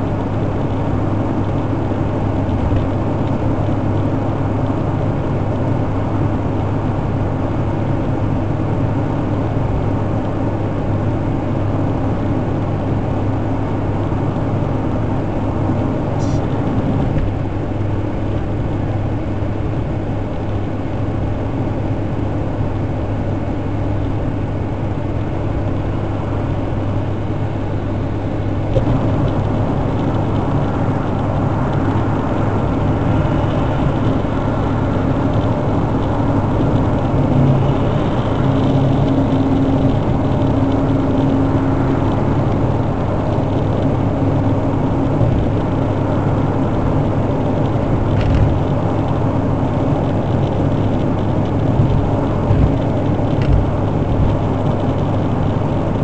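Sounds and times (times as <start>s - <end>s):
car cabin road and engine noise: 0.0s - 56.0s
deep engine drone: 0.0s - 56.0s.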